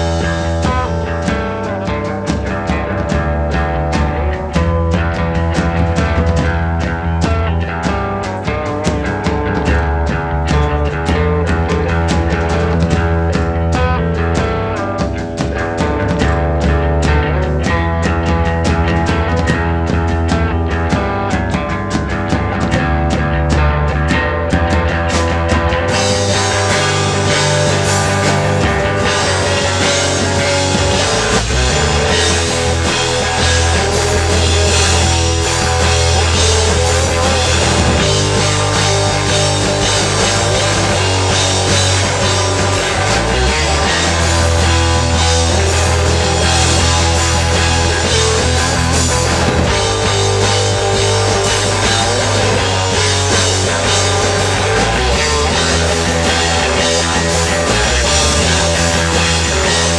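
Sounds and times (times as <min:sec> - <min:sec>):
bass line: 0:00.0 - 0:59.9
rock band playing live: 0:00.0 - 0:59.9.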